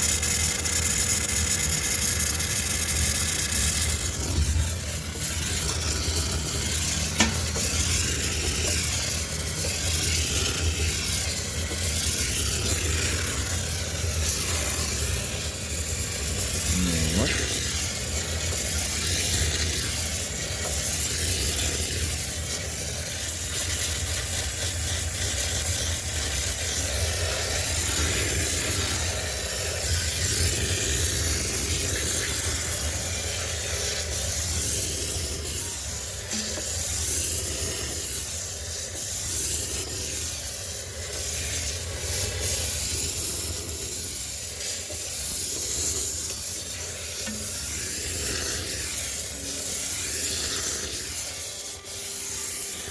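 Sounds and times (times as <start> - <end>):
steam cleaner hissing: 0.0 - 52.9.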